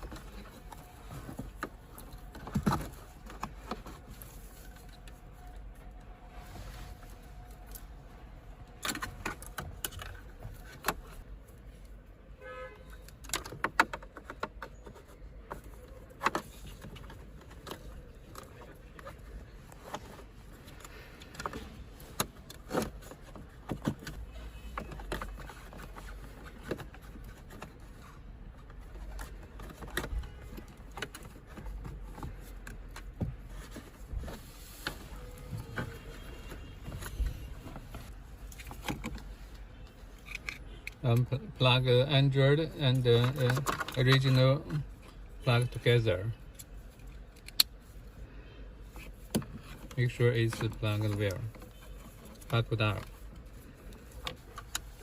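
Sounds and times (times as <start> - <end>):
cables and plastic connectors rattling: 0.0 - 6.2, 7.0 - 12.1, 12.8 - 55.0.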